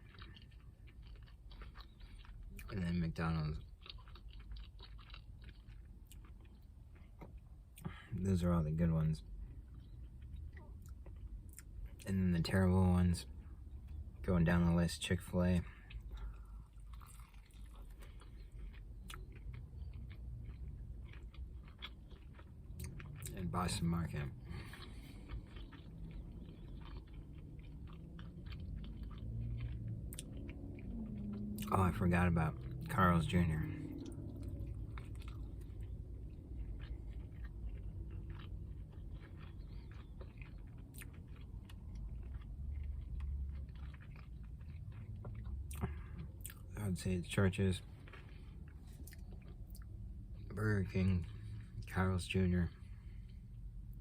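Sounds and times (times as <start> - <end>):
chewing food: 0.0 - 54.0.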